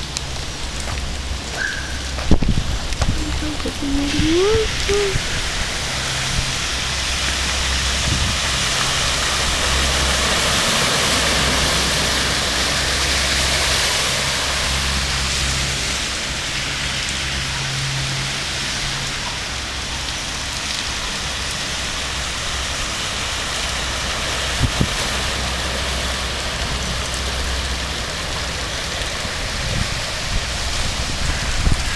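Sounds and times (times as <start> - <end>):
rushing water hiss: 0.0 - 31.9.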